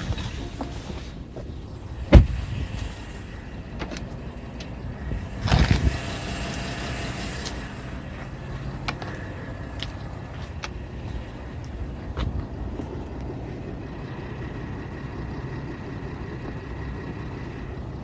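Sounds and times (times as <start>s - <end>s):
low engine rumble in cabin: 0.0s - 18.0s.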